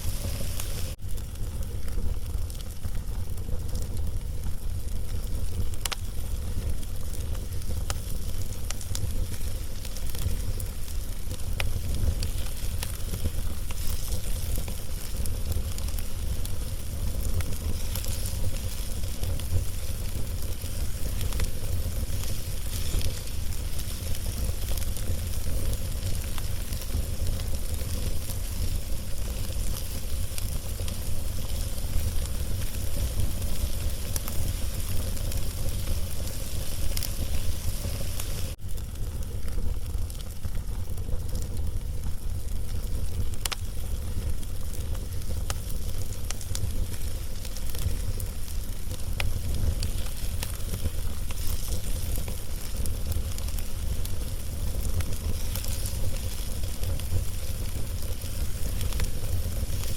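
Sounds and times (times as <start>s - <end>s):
wood fire crackling and hissing: 0.0s - 59.9s.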